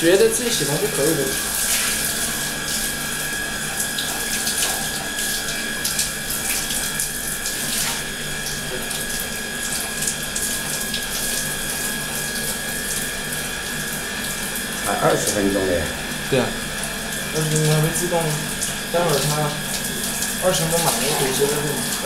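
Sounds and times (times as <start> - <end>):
shower water splashing into bathtub: 0.0 - 22.0.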